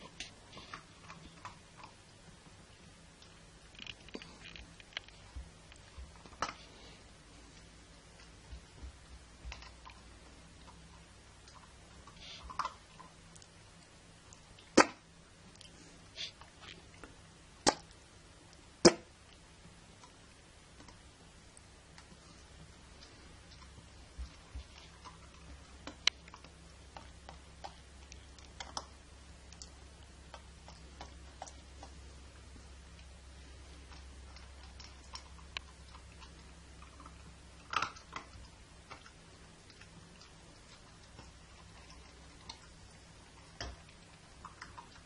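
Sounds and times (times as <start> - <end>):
dog crunching kibble: 0.0 - 18.0, 21.9 - 45.0
faint low hum: 0.0 - 45.0.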